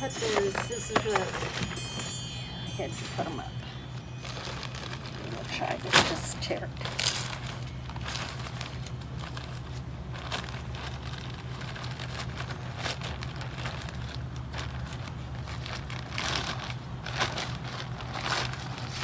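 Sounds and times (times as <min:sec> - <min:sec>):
plastic bag crinkling: 0:00.0 - 0:19.0
steady low hum: 0:00.0 - 0:19.0.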